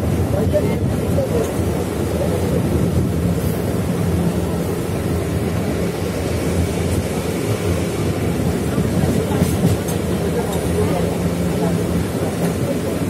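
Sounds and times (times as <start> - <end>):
train low rumble: 0.0 - 13.0
wind noise at window: 0.0 - 13.0.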